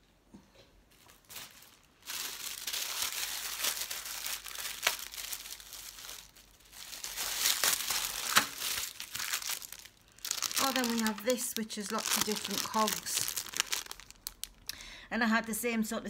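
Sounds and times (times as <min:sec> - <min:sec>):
plastic packaging crinkling: 0:00.9 - 0:14.7.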